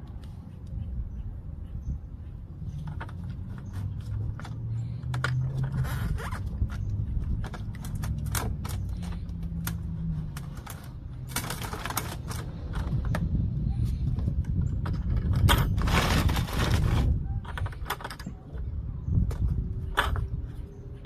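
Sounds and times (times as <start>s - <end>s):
irregular scrapes and clicks: 2.6s - 20.8s.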